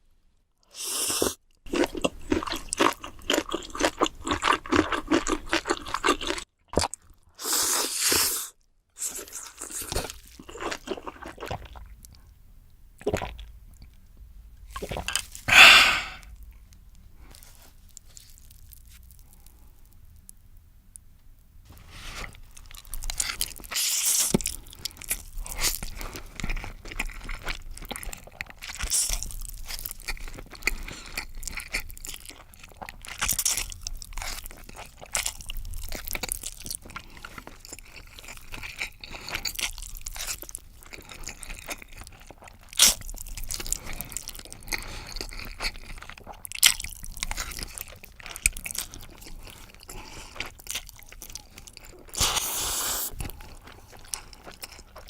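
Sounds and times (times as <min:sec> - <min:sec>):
person chewing crunchy food: 0:00.7 - 0:12.4, 0:13.0 - 0:14.0, 0:14.7 - 0:20.4, 0:21.7 - 0:55.0.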